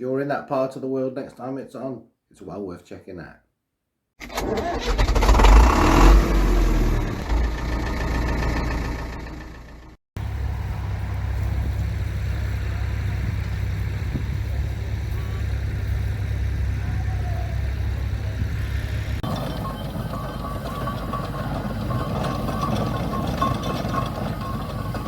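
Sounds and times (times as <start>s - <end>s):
tractor engine running: 4.5s - 25.0s.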